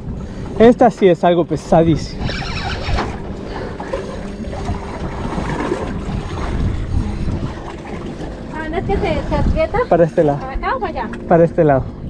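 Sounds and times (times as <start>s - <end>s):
water around a hull: 0.0s - 12.0s
wind buffeting microphone: 0.0s - 12.0s.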